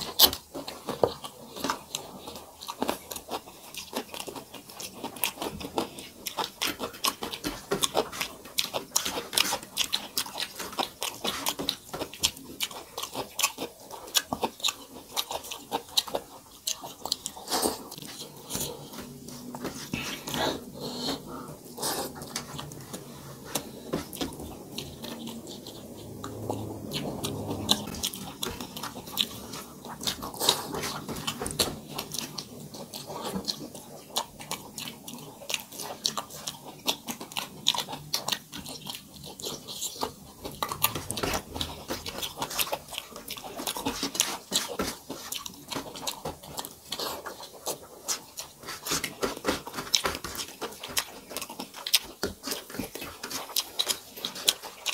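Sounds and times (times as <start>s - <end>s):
people chewing food: 0.0s - 54.9s.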